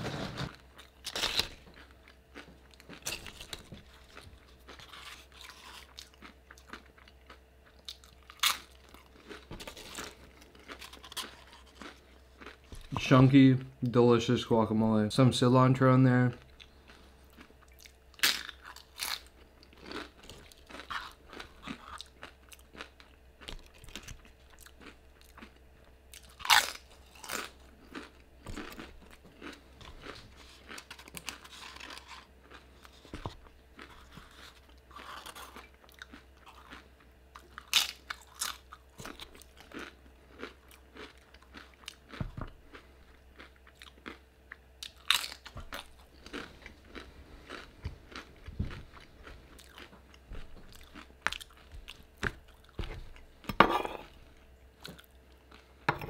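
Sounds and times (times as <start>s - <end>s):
chips crunching: 0.0s - 13.3s, 16.6s - 25.6s, 26.2s - 44.2s, 44.8s - 54.1s.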